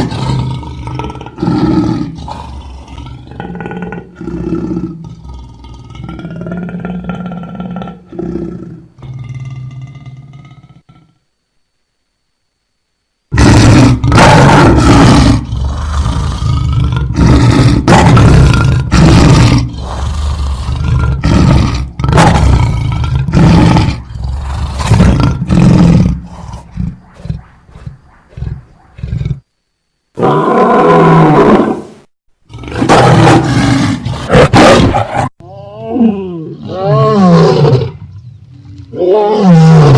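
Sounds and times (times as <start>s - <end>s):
lion growling: 0.0s - 11.2s, 13.3s - 29.5s, 32.5s - 39.9s
lion roaring: 0.0s - 11.2s, 13.3s - 29.5s, 30.2s - 39.9s.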